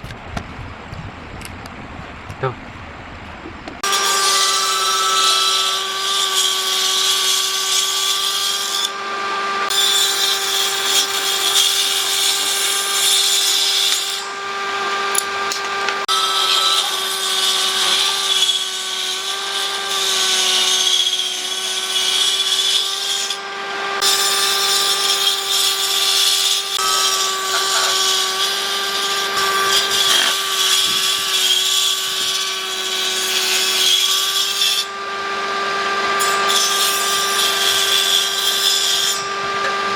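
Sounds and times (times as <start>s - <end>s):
power tool motor running: 3.8s - 39.9s.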